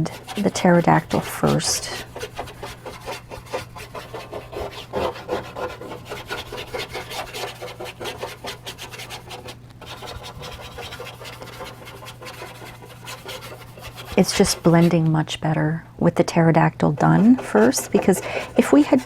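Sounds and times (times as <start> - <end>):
brush scrubbing on paper: 0.0 - 15.1, 17.0 - 19.0.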